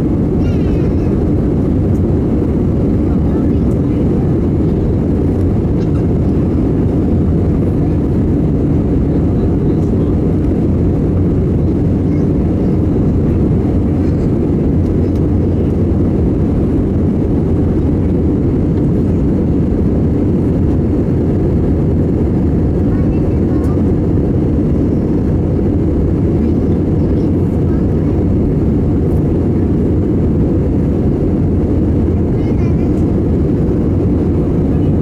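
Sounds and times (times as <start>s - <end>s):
airliner cabin drone: 0.0s - 35.0s.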